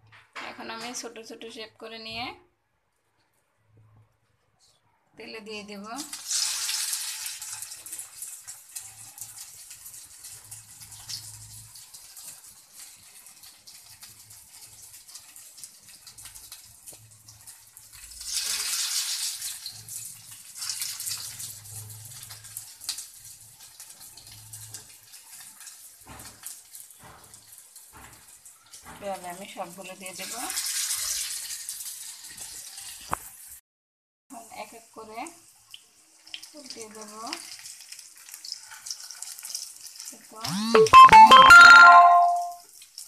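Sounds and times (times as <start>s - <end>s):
oil sizzling in a frying pan: 5.4s - 33.6s, 34.3s - 40.4s, 42.6s - 43.0s.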